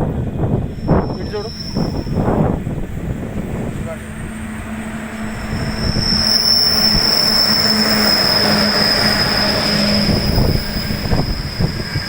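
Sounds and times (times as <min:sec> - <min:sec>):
train rumbling on track: 0:00.0 - 0:12.0
train wheels squealing: 0:00.6 - 0:12.0.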